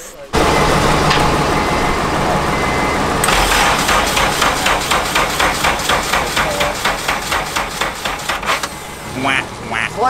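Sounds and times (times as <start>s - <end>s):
car engine cranking slowly: 0.4s - 8.8s.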